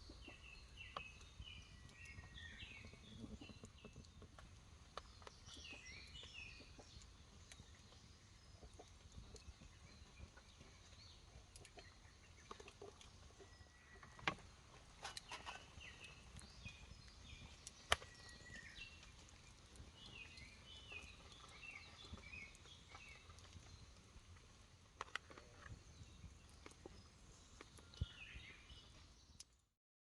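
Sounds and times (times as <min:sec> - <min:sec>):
birds chirping: 0:00.0 - 0:29.7.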